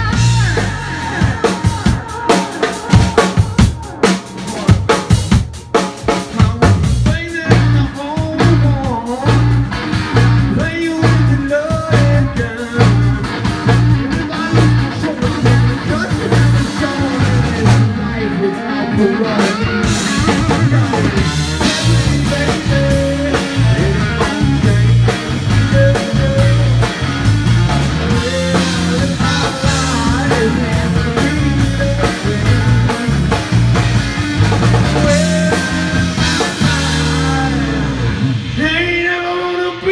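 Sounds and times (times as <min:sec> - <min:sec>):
repeating low bass line: 0:00.0 - 0:02.1, 0:06.4 - 0:39.3
drum kit: 0:00.0 - 0:39.9
electric guitars: 0:00.0 - 0:39.9.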